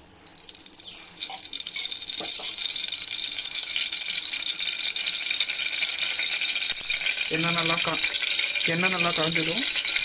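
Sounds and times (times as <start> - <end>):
gas stove burner hissing: 0.8 - 10.0.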